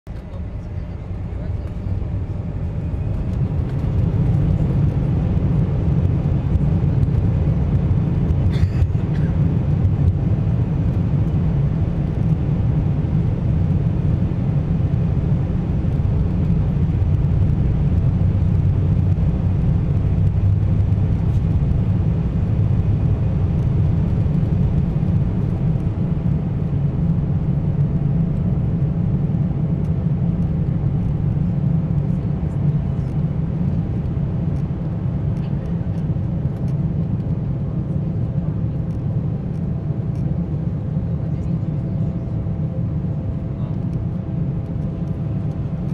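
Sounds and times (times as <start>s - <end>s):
runway rumble: 0.0s - 45.9s
jet engines roaring in cabin: 0.1s - 45.9s.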